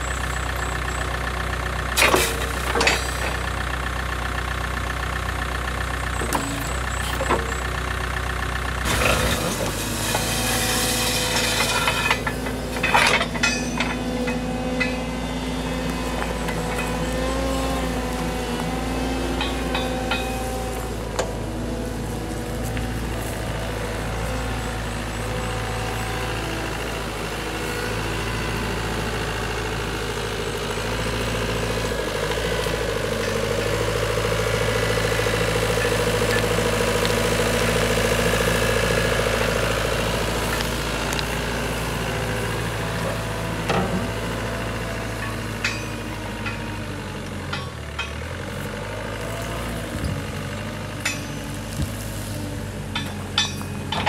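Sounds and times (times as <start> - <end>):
wheel loader diesel engine: 0.0 - 54.0.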